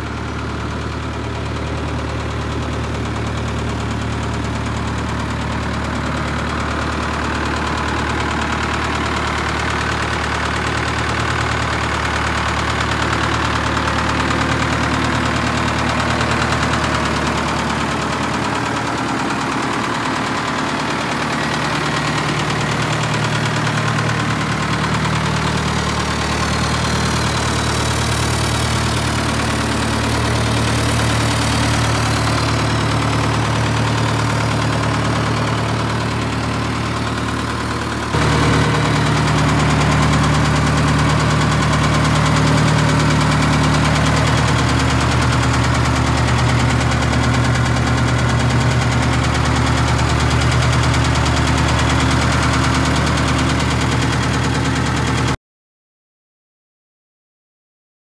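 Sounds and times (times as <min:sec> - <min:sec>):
forklift engine idling: 0:00.0 - 0:55.4.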